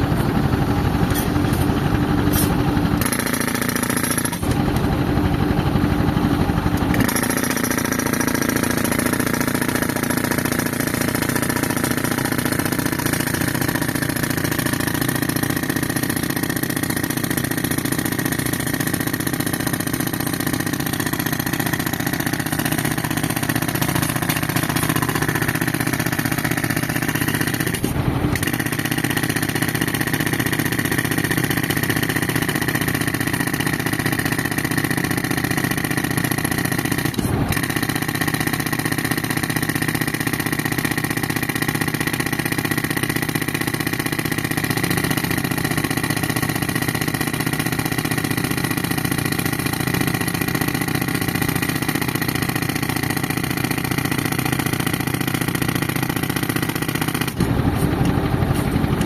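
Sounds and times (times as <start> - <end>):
air compressor running: 0.0 - 59.0
pneumatic breaker hammering concrete: 0.0 - 59.0.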